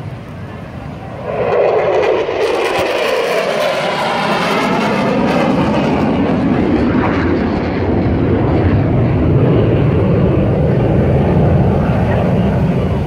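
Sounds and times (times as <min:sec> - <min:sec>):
jet passing with roar: 0:00.0 - 0:13.0.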